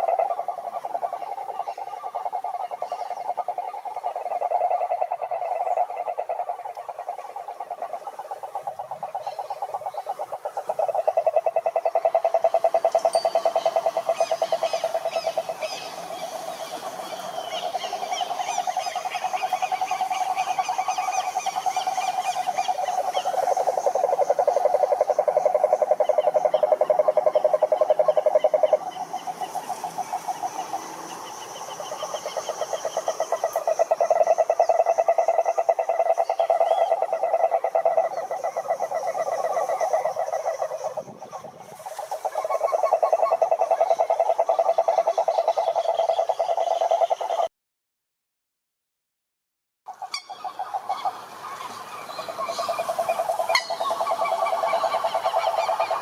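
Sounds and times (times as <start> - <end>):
frogs croaking: 0.0 - 47.5, 49.9 - 56.0
higher trilling frog calls: 0.0 - 47.5, 49.9 - 56.0.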